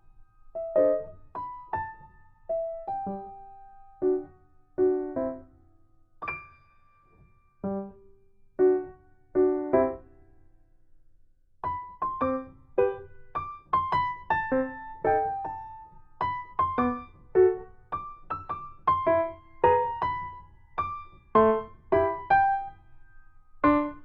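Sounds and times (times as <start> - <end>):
piano music: 0.0 - 5.6, 7.6 - 8.0, 8.6 - 10.2, 11.6 - 22.9, 23.6 - 24.0.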